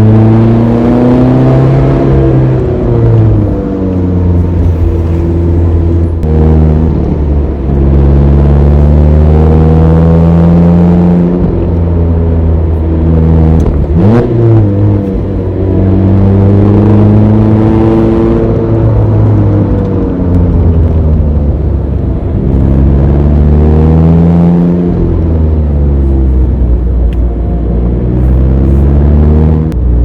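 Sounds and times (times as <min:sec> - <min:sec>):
car engine pulling uphill: 0:00.0 - 0:30.0.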